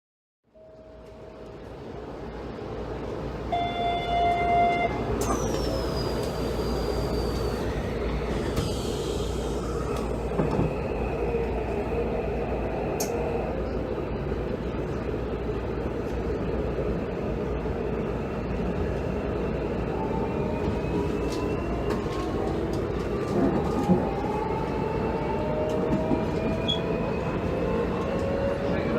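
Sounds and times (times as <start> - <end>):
train wheels rumbling on rail: 1.0 - 28.9.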